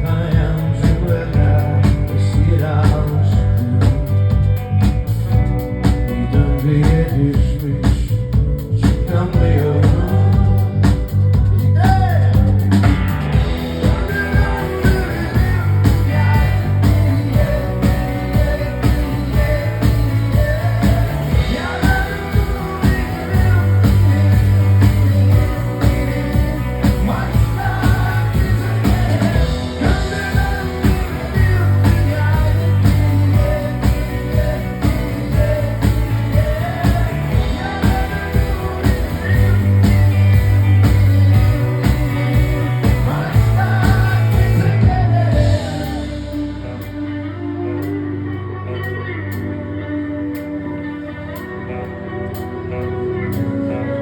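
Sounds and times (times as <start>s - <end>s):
steady drum beat: 0.0s - 46.3s
heavy pulsing bass: 0.0s - 48.6s
live rock band playing: 0.0s - 54.0s.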